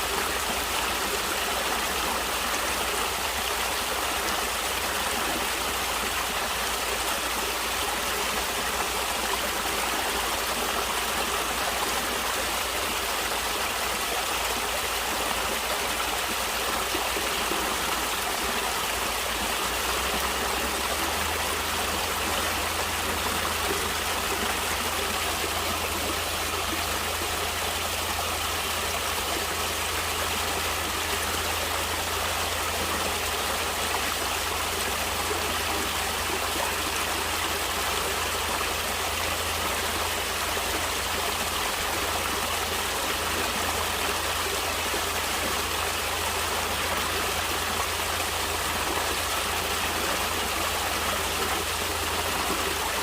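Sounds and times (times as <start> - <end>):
stream water flowing over rocks: 0.0 - 53.0.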